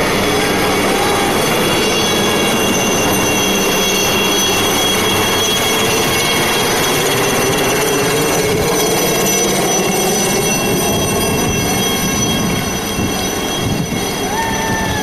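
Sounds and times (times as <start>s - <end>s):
helicopter rushing noise: 0.0s - 15.0s
helicopter turbine whine: 0.0s - 15.0s.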